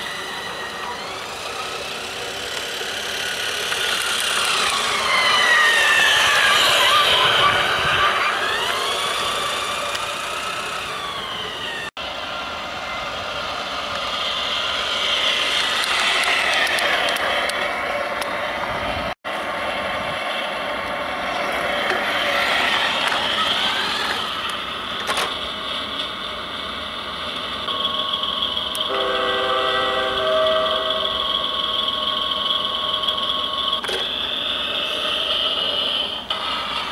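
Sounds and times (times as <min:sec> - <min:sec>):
toy train motor whining: 0:00.0 - 0:18.6, 0:20.4 - 0:26.4, 0:27.4 - 0:36.9
wheel rumble: 0:00.0 - 0:36.9.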